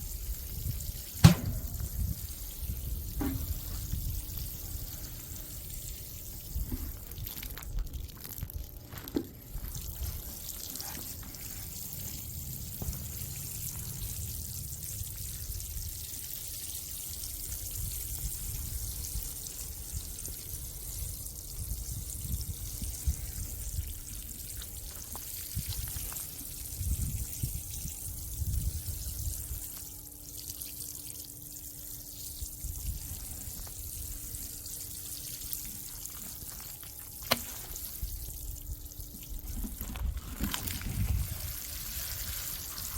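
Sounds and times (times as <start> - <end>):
water trickling onto soil: 0.1 - 42.9.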